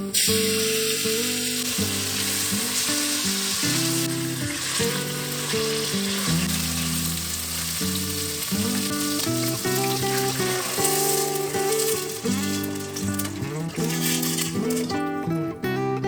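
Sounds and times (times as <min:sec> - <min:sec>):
food sizzling in a pan: 0:00.0 - 0:15.5
background music: 0:00.0 - 0:16.0.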